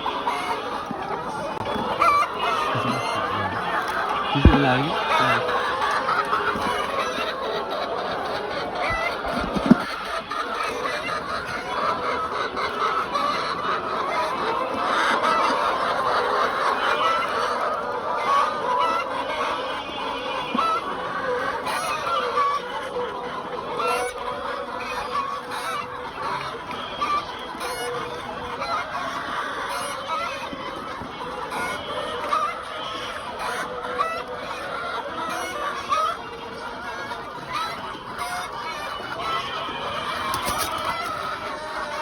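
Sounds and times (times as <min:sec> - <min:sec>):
chickens clucking and calling: 0:00.0 - 0:42.0.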